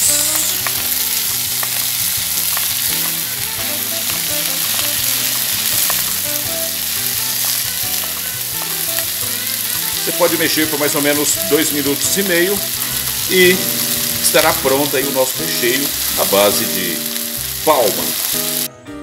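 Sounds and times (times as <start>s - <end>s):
food sizzling in a frying pan: 0.0s - 18.7s.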